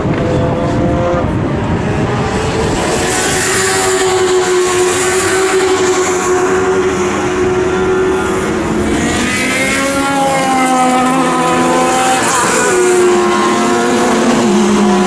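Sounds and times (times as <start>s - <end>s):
race car engines running hard: 0.0s - 15.0s.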